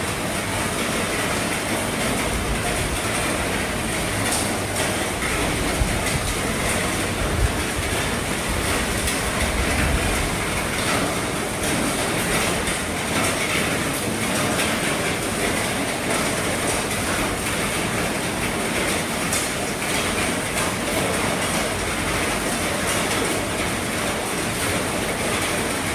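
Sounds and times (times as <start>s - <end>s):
heavy rain on a roof: 0.0s - 25.9s.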